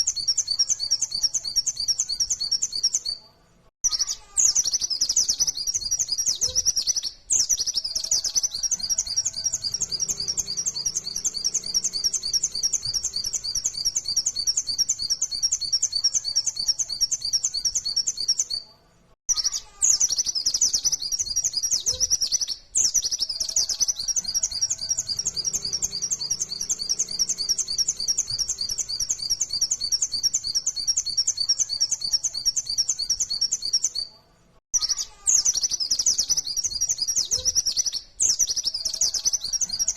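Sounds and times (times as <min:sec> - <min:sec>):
bird chattering song: 0:00.0 - 0:03.2, 0:03.8 - 0:18.7, 0:19.3 - 0:34.1, 0:34.8 - 0:39.9.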